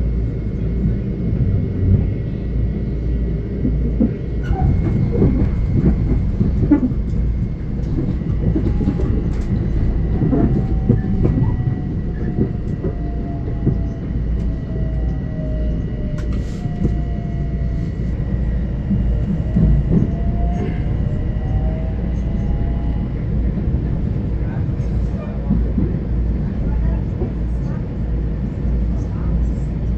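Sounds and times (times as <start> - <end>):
train rumbling by: 0.0 - 29.9.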